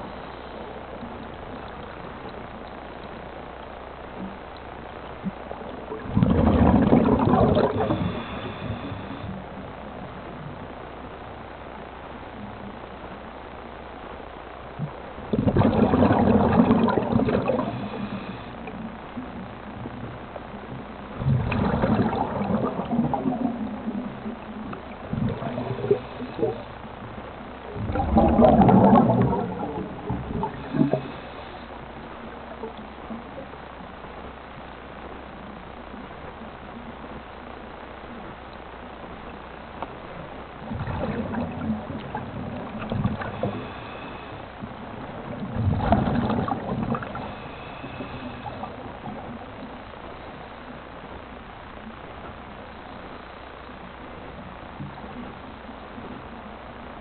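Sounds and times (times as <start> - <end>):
regulator hiss: 0.0 - 6.1, 7.7 - 15.4, 17.0 - 40.7, 41.4 - 57.0
exhaled bubbles gurgling underwater: 0.0 - 57.0.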